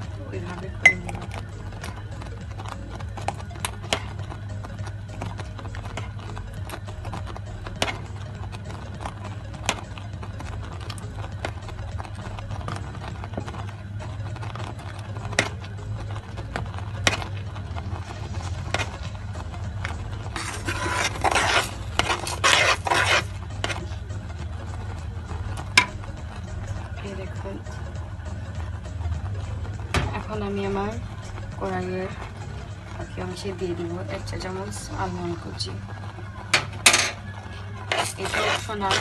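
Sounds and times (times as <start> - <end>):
spoon scraping thick mixture: 0.0 - 39.0
thick mixture bubbling: 0.0 - 39.0.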